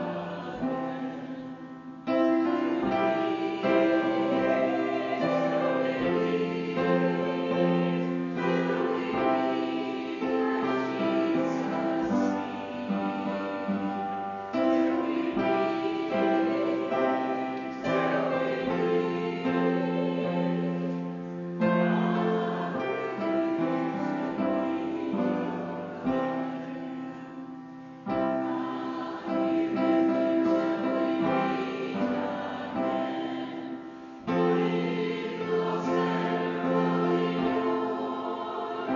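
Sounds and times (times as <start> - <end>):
people singing: 0.0 - 38.9
piano: 0.0 - 38.9.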